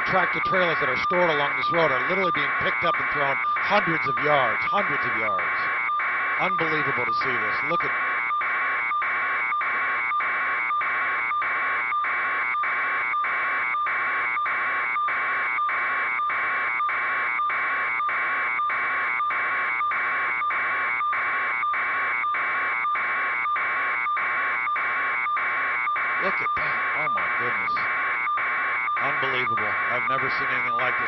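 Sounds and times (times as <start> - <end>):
electronic alarm buzzing: 0.0 - 31.0.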